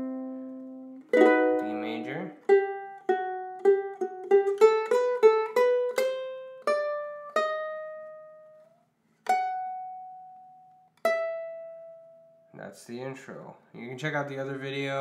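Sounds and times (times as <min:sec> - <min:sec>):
ukulele plucked notes: 0:00.0 - 0:12.4.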